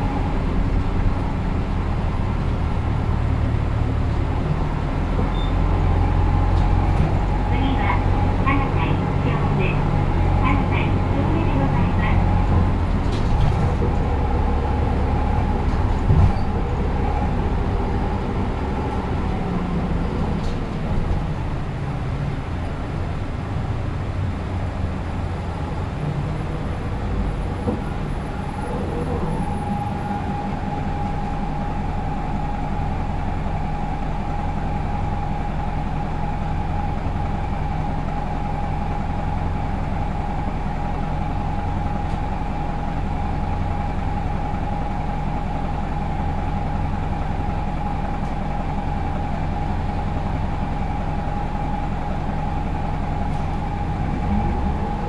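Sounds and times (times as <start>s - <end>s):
bus engine hum: 0.0s - 55.0s
road noise: 0.0s - 55.0s.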